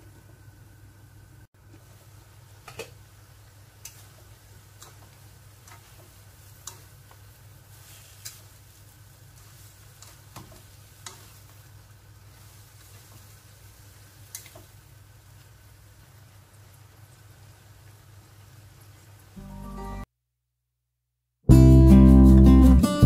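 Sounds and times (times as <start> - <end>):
vegetables sizzling: 1.5 - 20.1.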